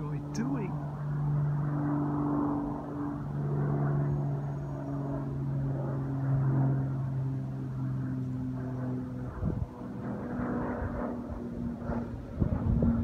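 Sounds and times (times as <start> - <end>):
propeller plane droning overhead: 0.0 - 13.0.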